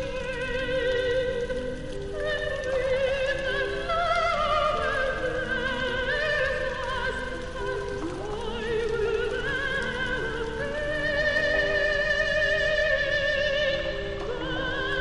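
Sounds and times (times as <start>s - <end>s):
operatic singing with vibrato: 0.0s - 15.0s.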